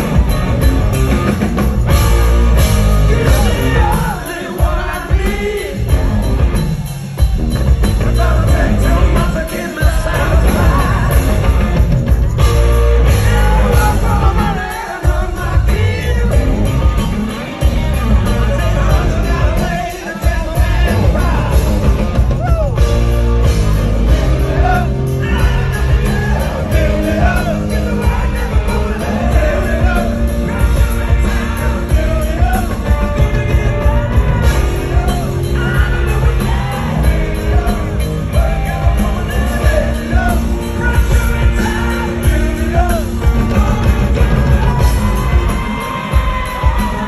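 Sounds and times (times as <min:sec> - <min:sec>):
rock band playing live: 0:00.0 - 0:47.0
male singer: 0:02.7 - 0:06.7, 0:07.8 - 0:23.0, 0:23.7 - 0:47.0.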